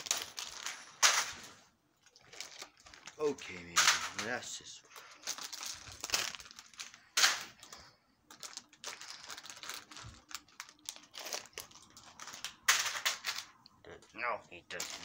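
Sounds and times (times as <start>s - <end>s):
plush toys rustling: 0.0s - 12.5s.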